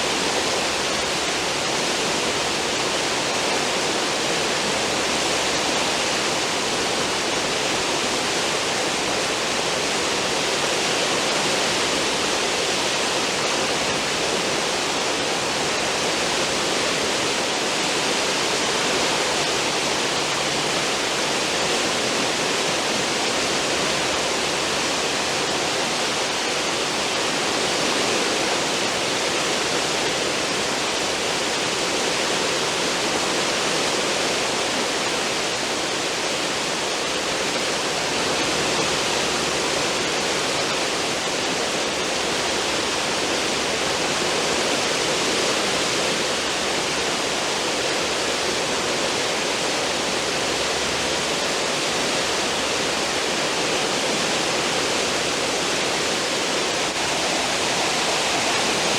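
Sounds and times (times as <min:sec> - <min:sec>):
ship wake water roaring: 0:00.0 - 0:58.9.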